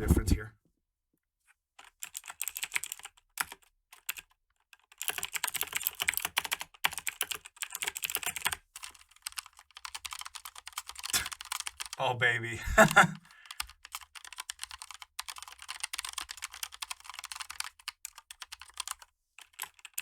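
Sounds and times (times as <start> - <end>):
mechanical keyboard typing: 1.8 - 12.0, 13.4 - 20.0.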